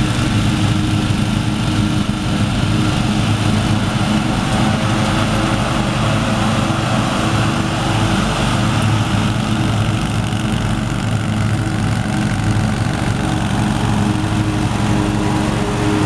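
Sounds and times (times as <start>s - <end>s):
lawn mower engines running: 0.0s - 16.0s.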